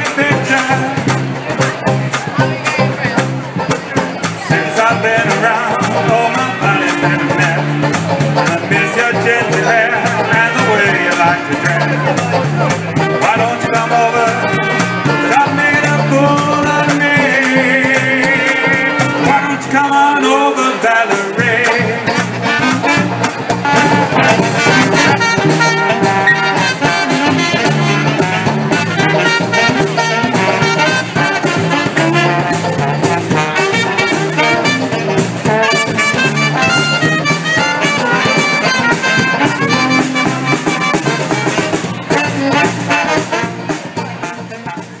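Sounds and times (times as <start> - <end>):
jazz band playing swing: 0.0 - 45.0.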